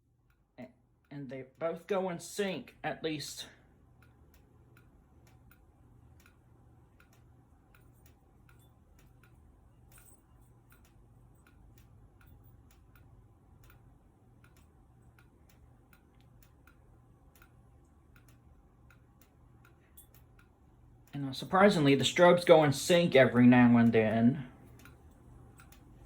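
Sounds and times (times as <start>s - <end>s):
fire alarm strobes clicking: 0.0s - 26.0s.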